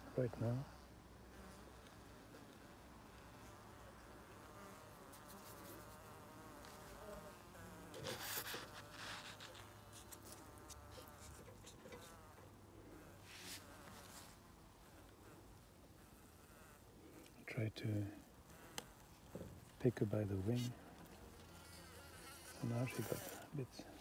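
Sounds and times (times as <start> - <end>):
honey bees humming: 0.0 - 24.0.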